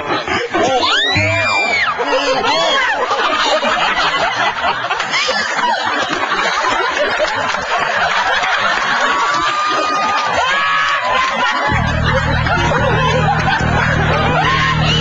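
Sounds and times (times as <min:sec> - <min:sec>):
audience laughing: 0:00.0 - 0:15.0.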